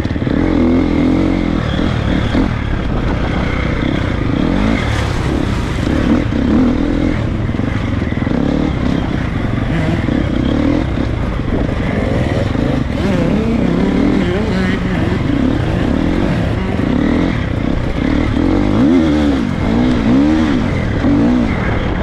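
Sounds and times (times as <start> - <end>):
motocross bike engine revving: 0.1 - 21.8.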